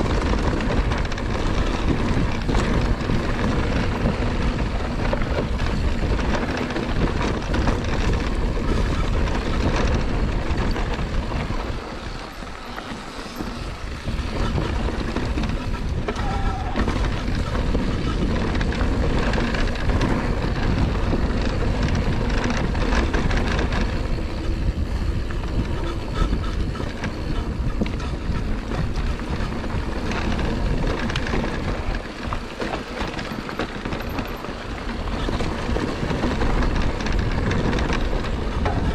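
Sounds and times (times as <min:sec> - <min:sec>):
bike tyres rumbling on dirt: 0:00.0 - 0:38.9
wind on microphone: 0:00.0 - 0:38.9.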